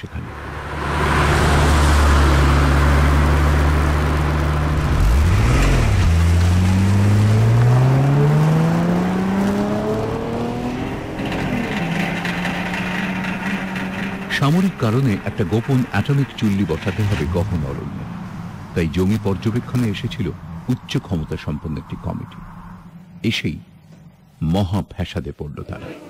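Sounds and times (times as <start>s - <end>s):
vehicle engine accelerating: 0.0s - 24.2s.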